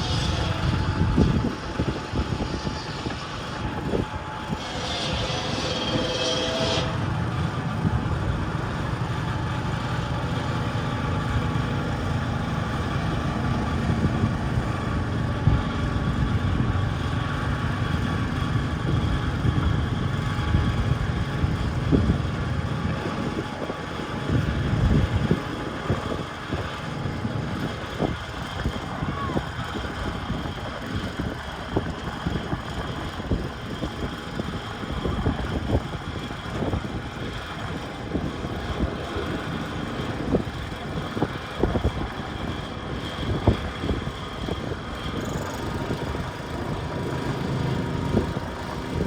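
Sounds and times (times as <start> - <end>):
garden tractor engine running: 0.0 - 49.0.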